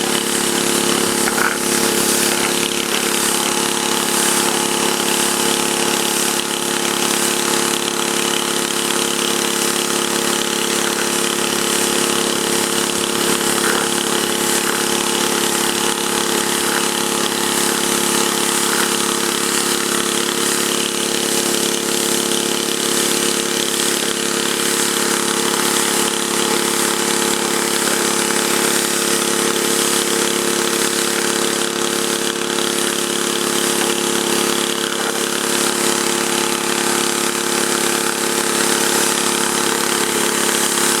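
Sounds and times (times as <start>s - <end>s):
high-pressure water spraying: 0.0s - 41.0s
pressure washer engine running: 0.0s - 41.0s.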